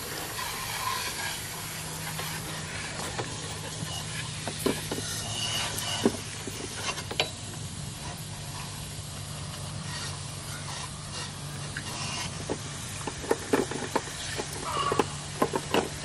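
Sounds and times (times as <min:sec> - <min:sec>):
hose water spraying hiss: 0:00.0 - 0:16.0
steady low hum: 0:00.0 - 0:16.0.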